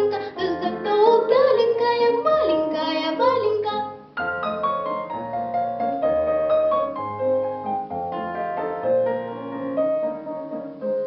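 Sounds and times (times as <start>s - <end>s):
piano accompaniment: 0.0s - 11.0s.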